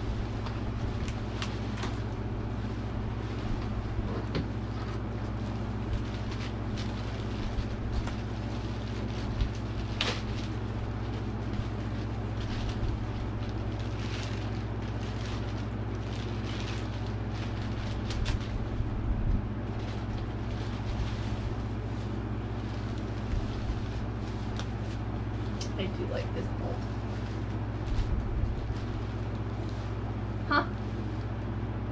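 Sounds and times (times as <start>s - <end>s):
bubble wrap crinkling: 0.0s - 31.6s
steady low hum: 0.0s - 31.9s.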